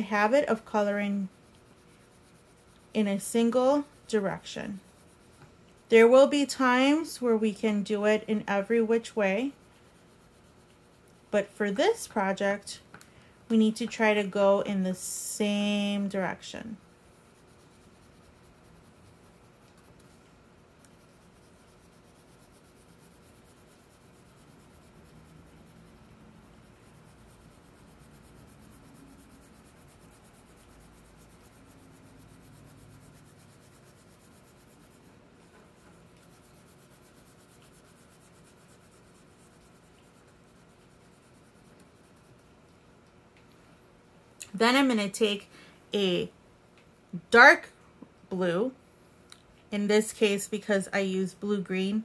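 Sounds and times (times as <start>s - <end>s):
crayon scratching on paper: 0.0s - 12.6s, 13.5s - 42.5s.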